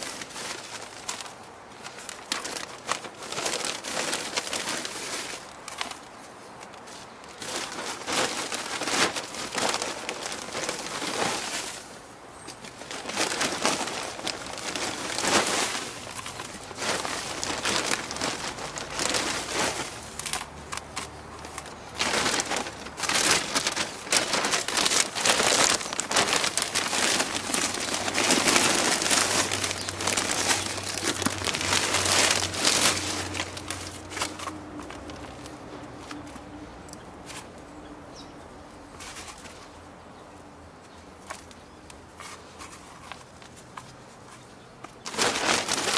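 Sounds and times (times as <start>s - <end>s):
potting soil rustling and crunching: 0.0s - 37.8s, 38.8s - 40.0s, 40.8s - 45.9s.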